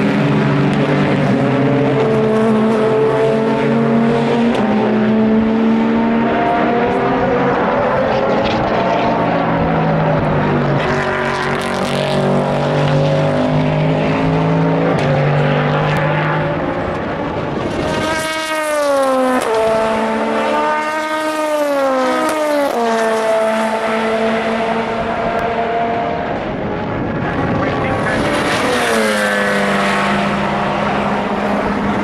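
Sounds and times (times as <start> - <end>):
car engine shifting gear: 0.0 - 20.1, 22.2 - 32.0
race car engines passing: 0.0 - 32.0.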